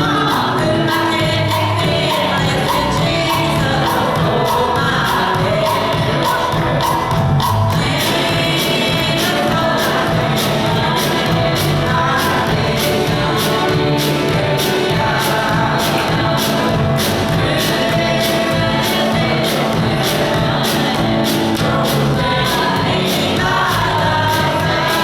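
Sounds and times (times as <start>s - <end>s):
congregation singing gospel: 0.0s - 25.0s
drum beat: 0.0s - 25.0s.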